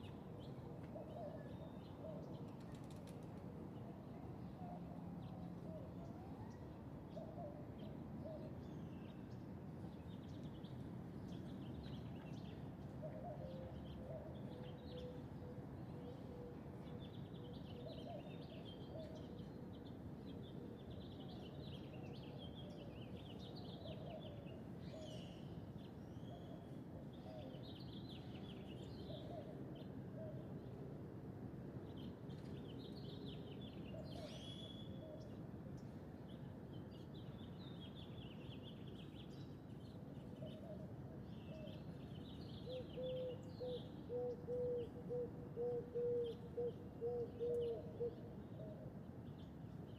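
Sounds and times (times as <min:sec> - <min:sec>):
steady low background noise: 0:00.0 - 0:49.9.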